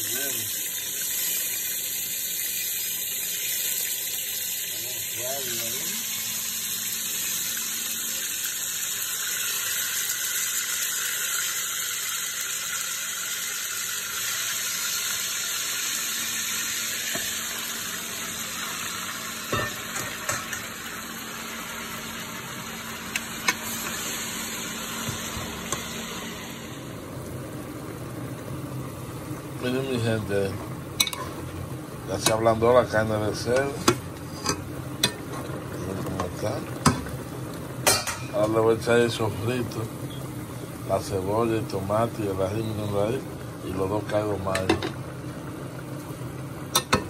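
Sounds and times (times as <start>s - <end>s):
meat sizzling in hot oil: 0.0s - 47.0s.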